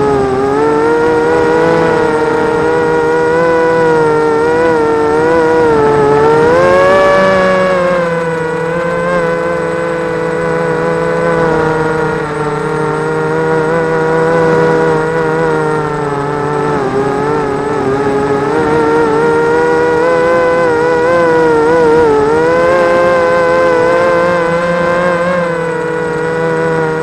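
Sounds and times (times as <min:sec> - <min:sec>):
drone motors and propellers whining: 0:00.0 - 0:27.0.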